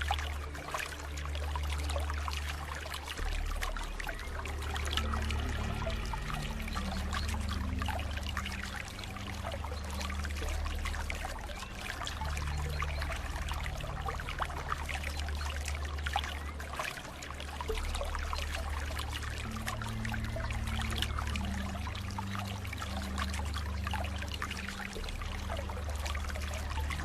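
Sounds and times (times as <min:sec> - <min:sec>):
soft low music notes: 0:00.0 - 0:27.0
water trickling and splashing: 0:00.0 - 0:27.0.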